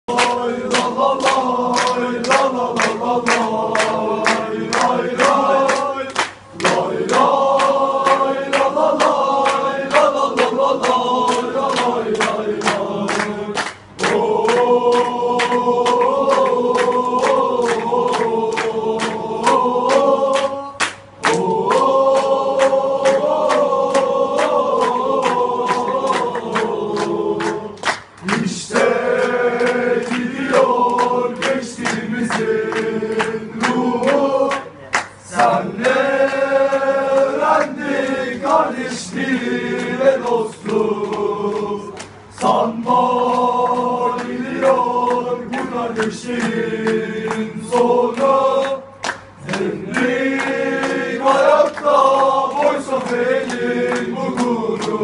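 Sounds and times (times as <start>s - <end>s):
crowd chanting in unison: 0.1s - 55.0s.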